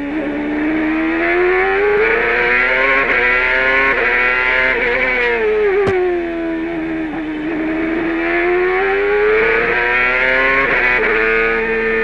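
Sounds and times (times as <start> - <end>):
racing engine at full power: 0.0 - 12.0.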